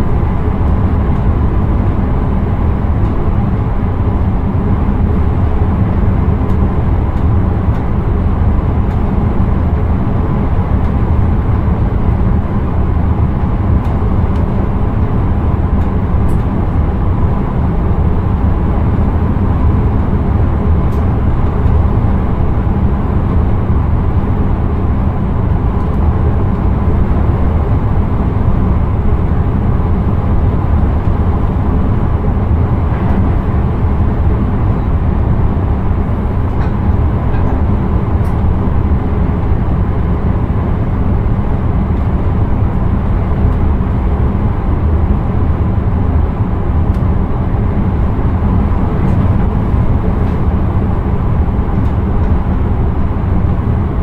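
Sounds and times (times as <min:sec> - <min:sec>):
train rumbling on track: 0:00.0 - 0:54.0.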